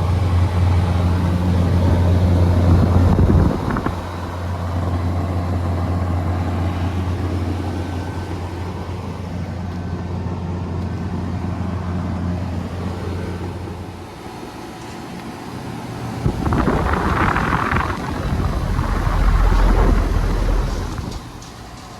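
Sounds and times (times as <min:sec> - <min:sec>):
low compressor hum: 0:00.0 - 0:21.9
rush of condenser fans: 0:00.0 - 0:21.9.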